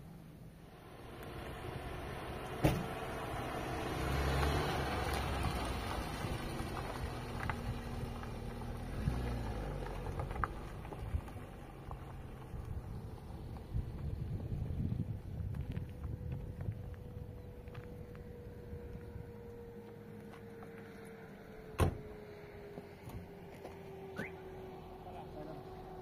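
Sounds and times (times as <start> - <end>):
car engine running on dirt road: 0.1 - 26.0.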